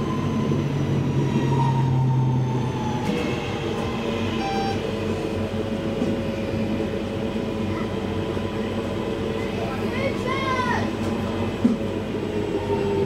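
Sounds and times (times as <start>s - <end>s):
train interior rumble: 0.0s - 13.0s
train motor hum: 0.0s - 13.0s.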